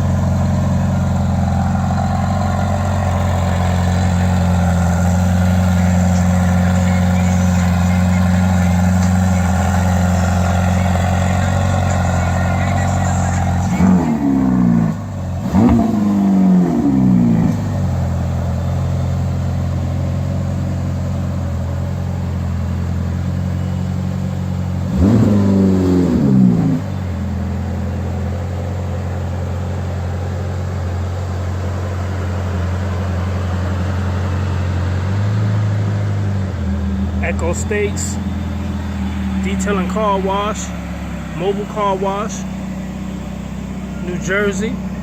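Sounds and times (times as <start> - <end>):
car engine idling with throttle blips: 0.0 - 45.0.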